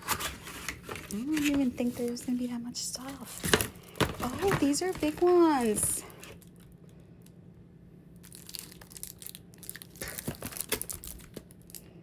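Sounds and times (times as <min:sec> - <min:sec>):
packaging rustling and tearing: 0:00.0 - 0:06.8, 0:08.2 - 0:12.0.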